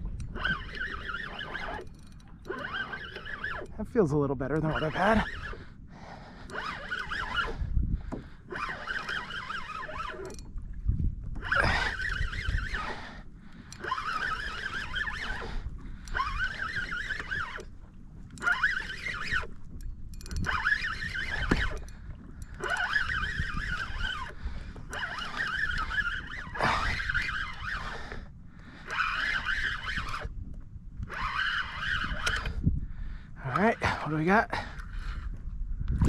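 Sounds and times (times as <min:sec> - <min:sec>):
fishing reel gears whirring: 0:00.0 - 0:35.5.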